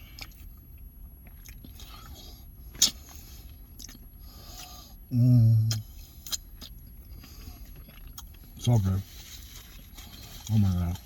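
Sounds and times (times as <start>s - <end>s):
person chewing: 0.0s - 0.6s, 1.2s - 5.0s, 5.6s - 11.0s
closed-mouth hum: 0.0s - 11.0s.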